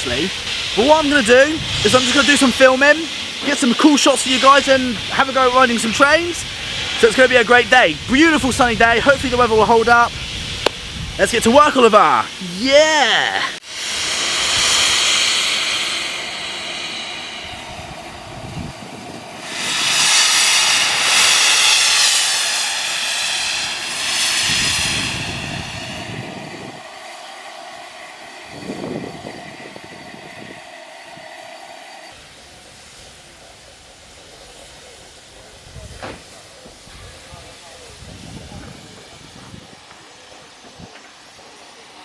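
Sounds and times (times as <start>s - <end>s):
steam locomotive hissing steam: 0.0s - 42.0s.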